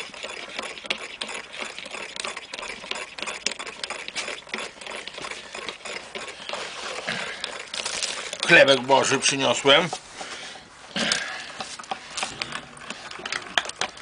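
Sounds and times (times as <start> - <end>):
spoon whisking in a mug: 0.0 - 10.3, 11.5 - 14.0.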